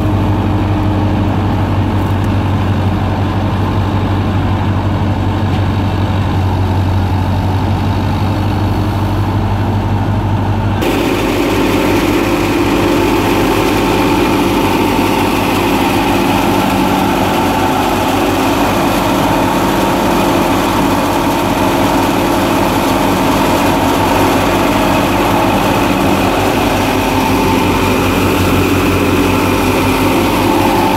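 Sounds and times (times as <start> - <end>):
diesel engine droning: 0.0 - 30.9
wheat thresher running: 0.0 - 30.9.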